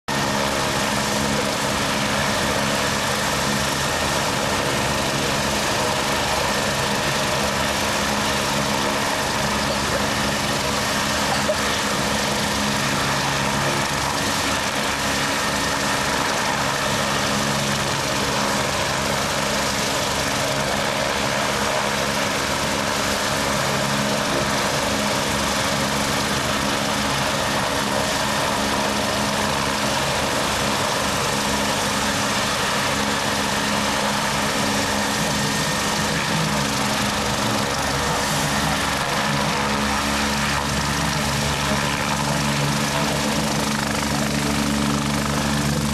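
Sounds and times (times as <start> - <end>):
helicopter idling: 0.1 - 45.9.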